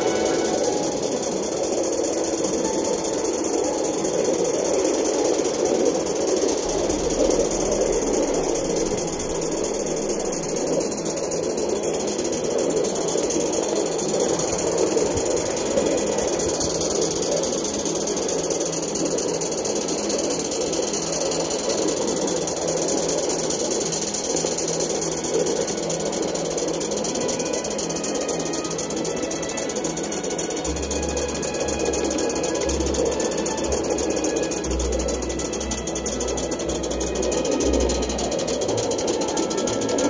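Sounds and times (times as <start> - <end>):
steam hissing: 0.0 - 40.0
steam locomotive chuffing: 0.0 - 40.0.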